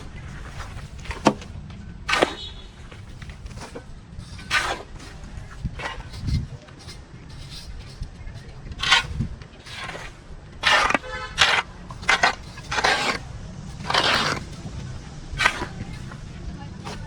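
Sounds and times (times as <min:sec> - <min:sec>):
scraping and rustling weeds: 0:00.0 - 0:17.0
quick rattle: 0:02.1 - 0:17.0.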